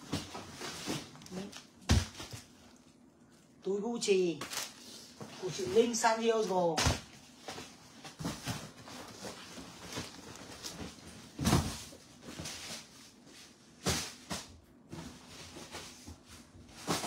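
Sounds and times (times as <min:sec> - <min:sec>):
packages rustling and knocking: 0:00.0 - 0:03.0, 0:04.4 - 0:17.0.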